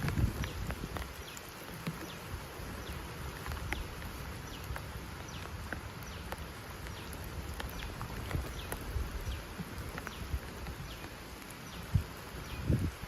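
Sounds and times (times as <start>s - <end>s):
low rumble of wind: 0.0s - 13.0s.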